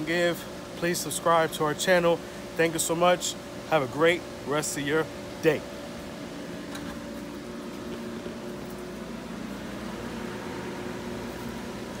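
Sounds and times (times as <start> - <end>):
pool pump motor humming: 0.0 - 12.0.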